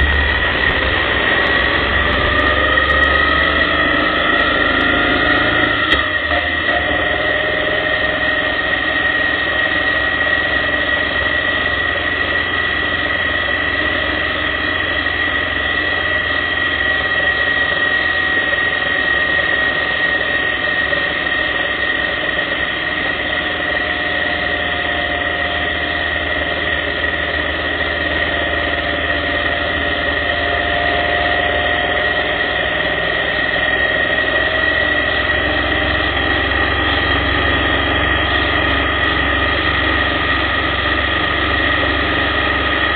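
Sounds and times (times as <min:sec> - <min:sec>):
motorcycle engine and road drone: 0:00.0 - 0:42.9
steady high whine: 0:00.0 - 0:42.9.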